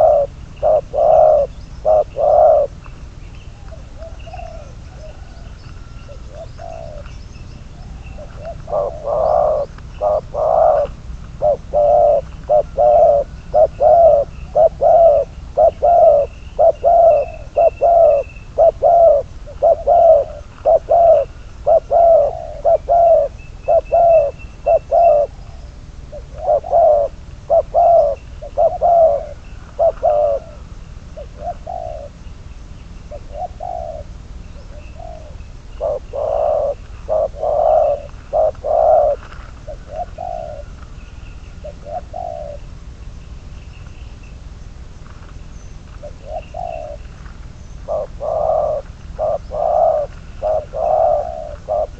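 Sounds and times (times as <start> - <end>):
dove cooing: 0.0 - 42.8, 45.1 - 51.9
small birds chirping: 0.0 - 51.9.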